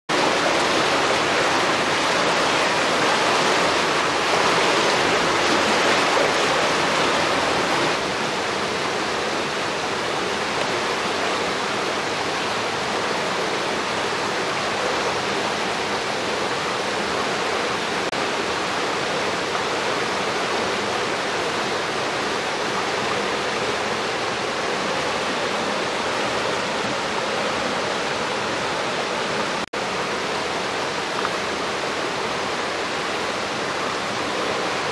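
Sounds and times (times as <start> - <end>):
water rushing and churning: 0.1 - 34.9.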